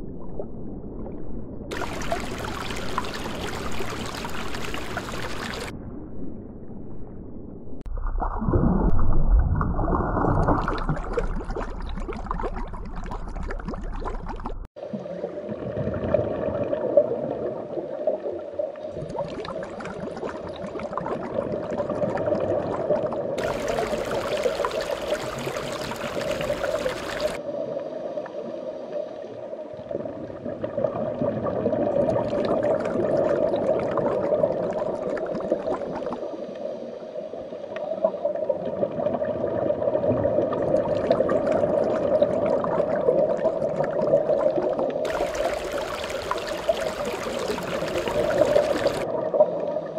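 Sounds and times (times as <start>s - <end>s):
underwater bubbling and gurgling: 0.0s - 6.3s, 7.7s - 49.9s.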